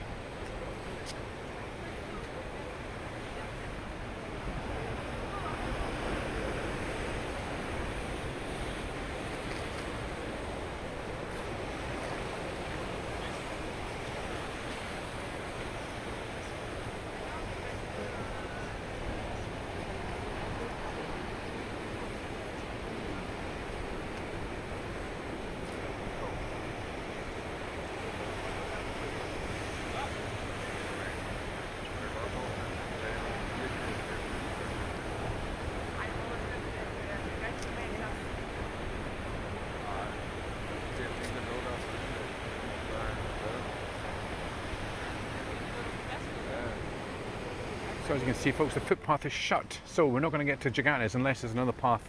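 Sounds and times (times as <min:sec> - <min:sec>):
stormy sea surf on rocks: 0:00.0 - 0:52.0.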